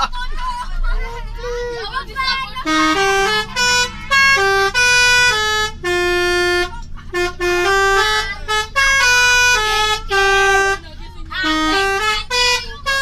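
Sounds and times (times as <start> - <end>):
bus musical horn playing tune: 1.0 - 13.0.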